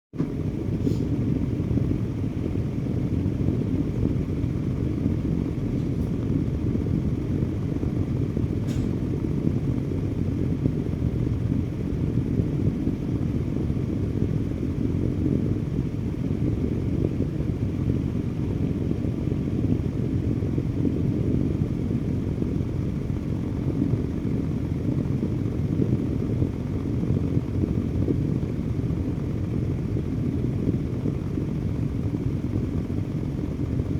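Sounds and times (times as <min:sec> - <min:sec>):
electric fan running: 0:00.2 - 0:33.9.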